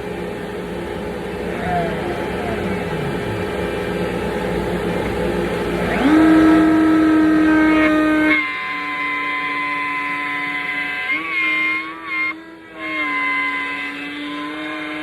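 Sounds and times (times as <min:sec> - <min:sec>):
router motor whine: 0:00.0 - 0:15.0
shop vacuum running: 0:00.0 - 0:15.0.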